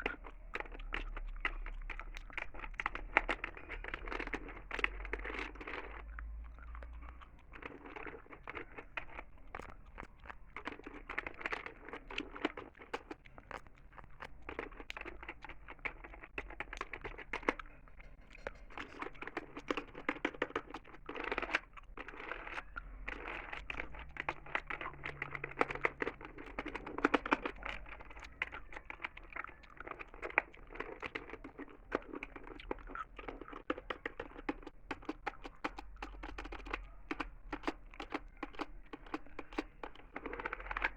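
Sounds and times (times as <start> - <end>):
gum chewing: 0.0 - 40.9.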